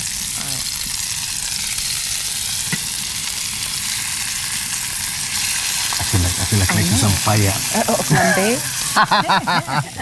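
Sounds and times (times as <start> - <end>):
fish sizzling in frying pan: 0.0 - 10.0.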